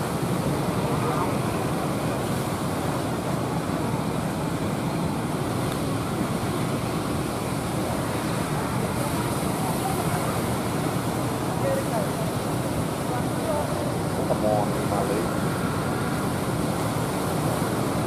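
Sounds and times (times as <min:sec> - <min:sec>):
rough surf breaking: 0:00.0 - 0:18.0.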